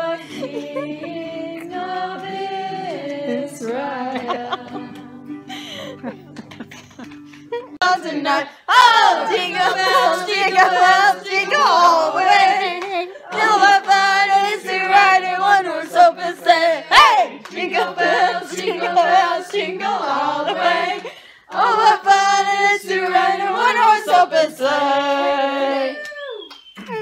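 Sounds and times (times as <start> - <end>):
women singing together: 0.0 - 5.4, 7.7 - 26.0.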